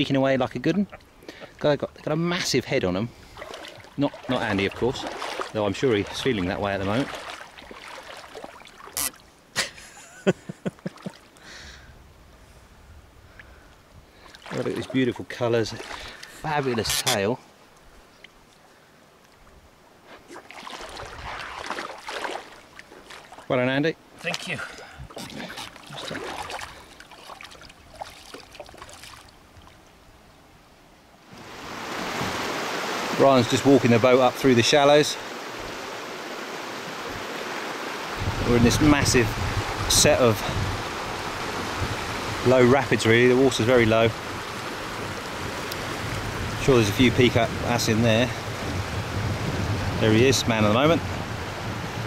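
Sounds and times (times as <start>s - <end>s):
river water trickling and splashing: 0.0s - 52.0s.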